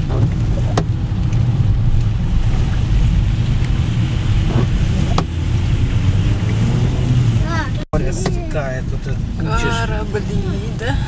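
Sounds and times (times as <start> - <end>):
car driving on wet road: 0.0 - 11.0.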